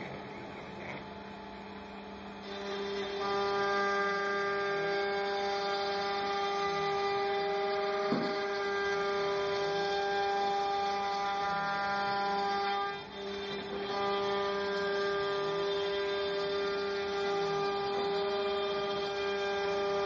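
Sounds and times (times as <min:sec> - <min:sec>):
router cutting wood whine: 0:00.0 - 0:20.0.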